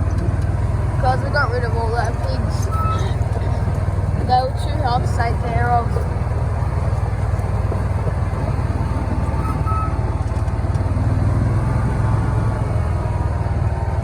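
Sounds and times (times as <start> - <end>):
utility vehicle engine running: 0.0 - 14.0.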